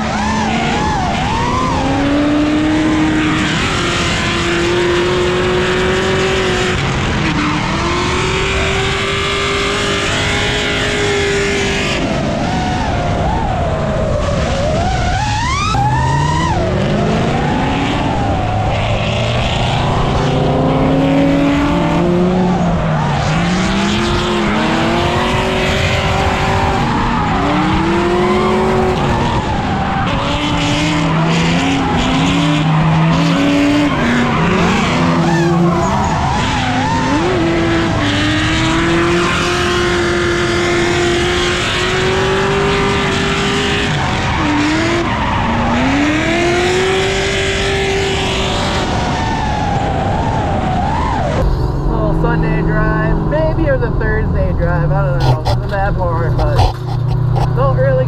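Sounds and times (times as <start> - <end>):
car engine revving: 0.0 - 58.0
tires screeching: 0.0 - 58.0.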